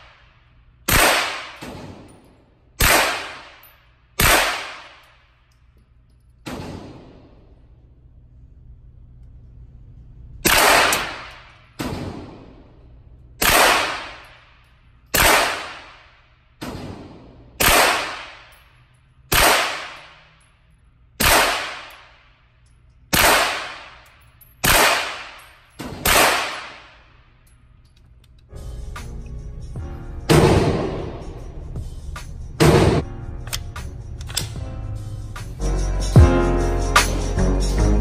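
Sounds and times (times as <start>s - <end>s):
suppressed gunshots indoors: 0.0s - 28.5s, 30.2s - 31.4s, 32.6s - 34.7s.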